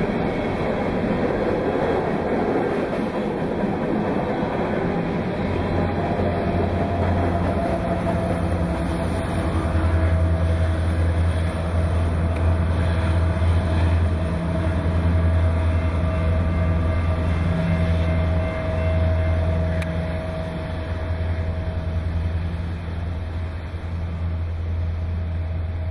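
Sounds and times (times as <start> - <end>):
diesel locomotives droning: 0.0 - 25.9
train rumbling past: 0.0 - 25.9.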